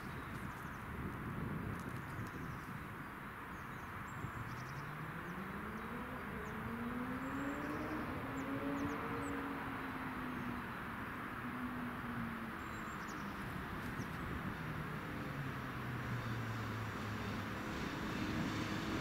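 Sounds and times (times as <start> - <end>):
birds chirping: 1.7 - 17.9.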